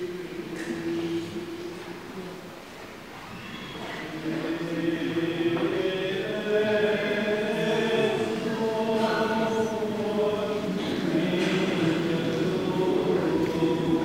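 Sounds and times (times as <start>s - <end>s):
voices singing liturgical chant: 0.0s - 2.4s, 3.7s - 14.0s.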